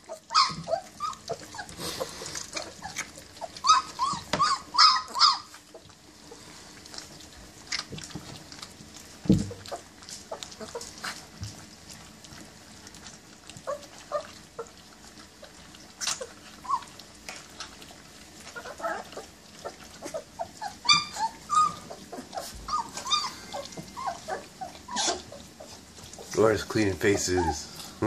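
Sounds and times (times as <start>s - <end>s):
kibble crunching in steel pan: 0.0s - 28.0s
puppies whimpering and yipping: 0.0s - 28.0s.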